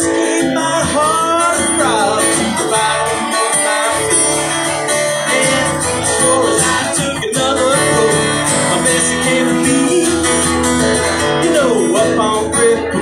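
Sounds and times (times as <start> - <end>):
acoustic guitars strumming: 0.0 - 13.0
man singing: 0.0 - 13.0.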